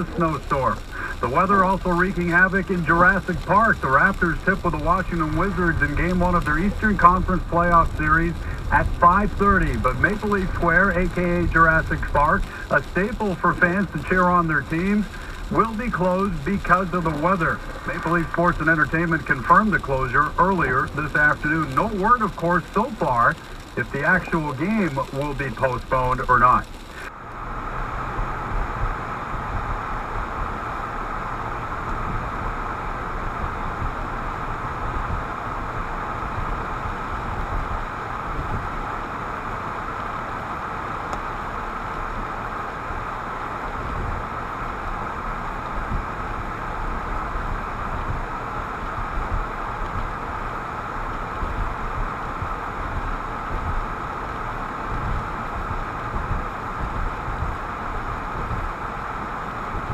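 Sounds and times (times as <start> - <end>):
engine rumble: 0.0 - 59.9
wind noise: 0.0 - 59.9.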